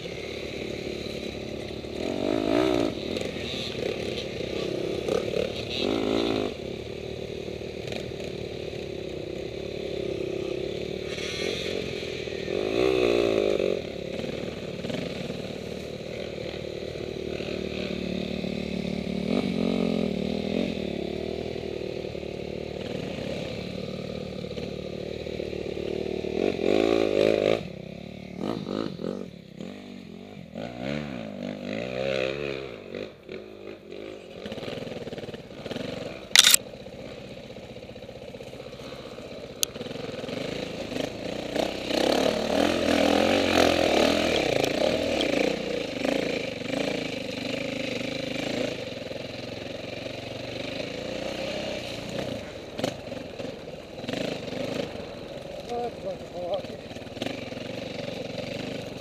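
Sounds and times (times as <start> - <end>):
dirt bike engine revving: 0.0 - 27.7, 28.3 - 37.2, 39.7 - 59.0.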